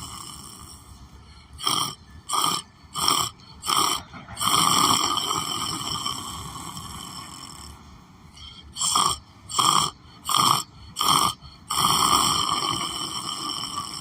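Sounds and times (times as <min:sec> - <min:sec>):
person snoring: 0:00.0 - 0:07.8, 0:08.4 - 0:14.0.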